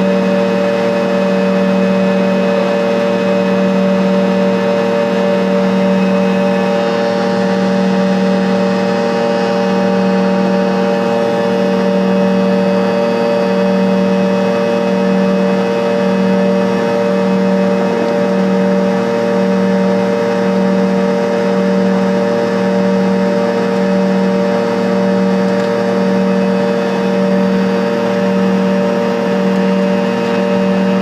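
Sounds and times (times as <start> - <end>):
airliner cabin drone: 0.0 - 31.0.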